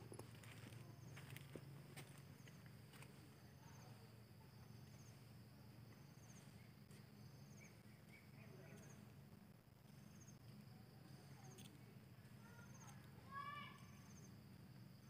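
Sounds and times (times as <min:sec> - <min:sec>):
crickets chirping: 0:00.0 - 0:15.0
low steady hum: 0:00.0 - 0:15.0.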